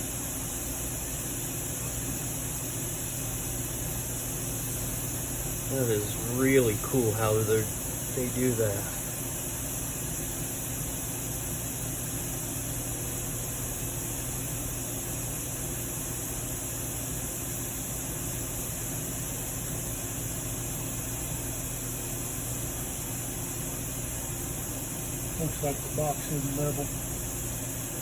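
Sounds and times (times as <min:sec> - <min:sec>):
constant low hum: 0:00.0 - 0:28.0.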